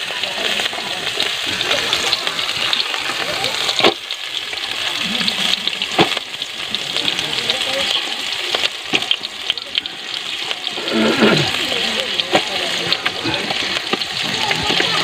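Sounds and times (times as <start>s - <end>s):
lobsters sizzling in hot oil: 0.0s - 15.0s.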